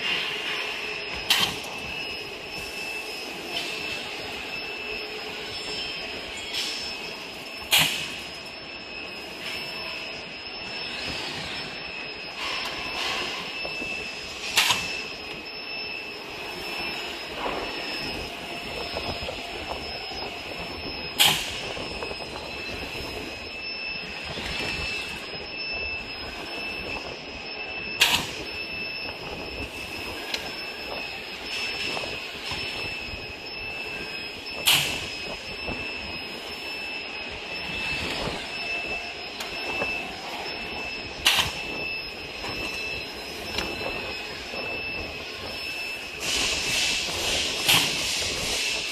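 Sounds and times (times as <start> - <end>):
machine whining and clattering: 0.0 - 48.9.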